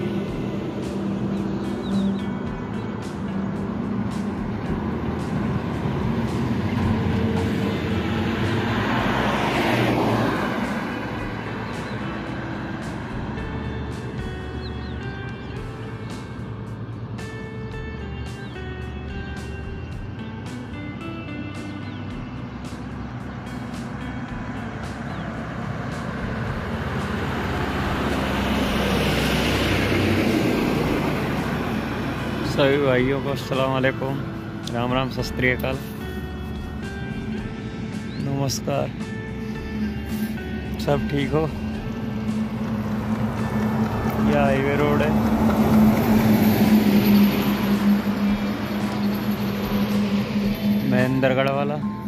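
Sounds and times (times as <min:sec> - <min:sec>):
highway traffic hum: 0:00.0 - 0:52.0.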